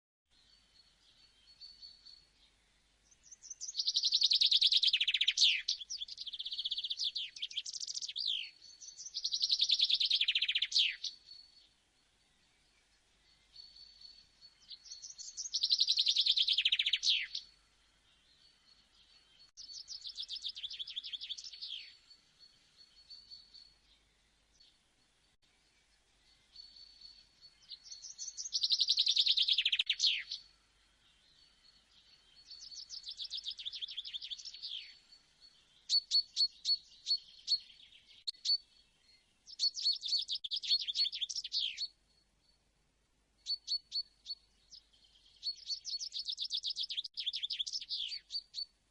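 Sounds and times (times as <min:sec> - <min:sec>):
songbird singing trills: 0:00.3 - 0:48.9.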